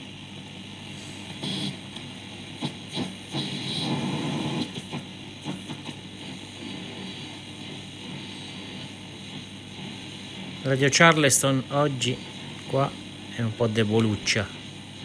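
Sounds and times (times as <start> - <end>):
radio static and hiss: 0.0 - 15.0
steady low hum: 0.0 - 15.0
radio signal snatches: 0.8 - 15.0.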